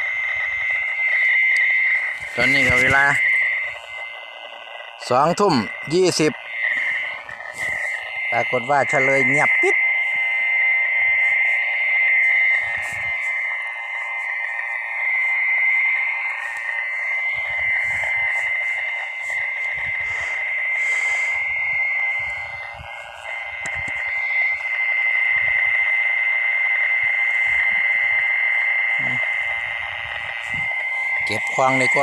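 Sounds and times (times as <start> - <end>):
frogs calling: 0.0 - 32.0.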